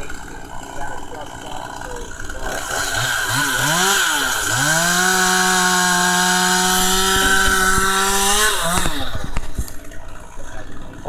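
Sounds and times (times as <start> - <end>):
chainsaw engine revving: 0.0 - 11.0.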